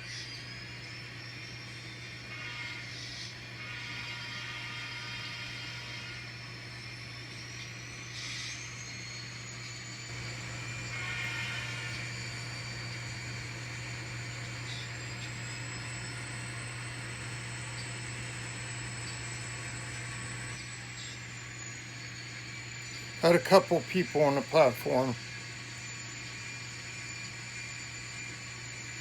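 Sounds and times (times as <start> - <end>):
diesel engine drone with whine: 2.9 - 29.0.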